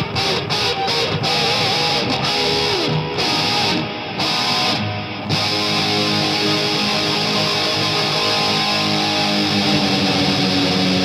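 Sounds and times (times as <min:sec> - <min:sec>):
guitar-driven rock music: 0:00.0 - 0:11.0.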